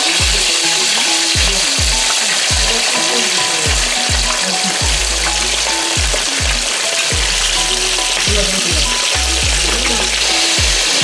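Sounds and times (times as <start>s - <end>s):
food sizzling in oil: 0.0s - 11.0s
music with deep bass beat: 0.0s - 11.0s.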